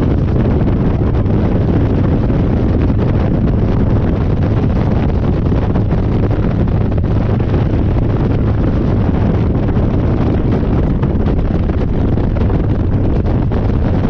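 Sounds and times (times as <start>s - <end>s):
motorcycle engine cruising: 0.0s - 14.0s
wind buffeting microphone: 0.0s - 14.0s.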